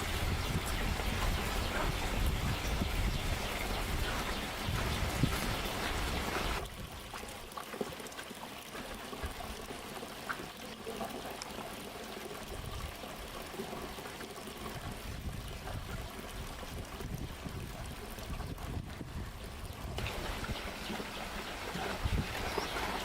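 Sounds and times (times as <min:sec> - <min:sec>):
small water drips: 0:00.0 - 0:23.0
water noise like rain: 0:00.0 - 0:23.0
water trickling: 0:00.0 - 0:23.0.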